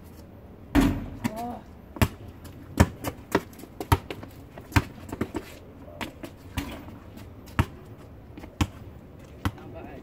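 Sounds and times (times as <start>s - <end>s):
basketball bouncing on asphalt: 0.7s - 9.8s.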